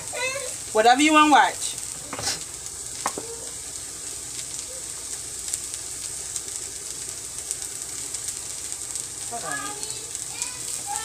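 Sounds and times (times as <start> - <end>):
small crackles: 0.0 - 11.0
vegetables sizzling in a pan: 0.0 - 11.0.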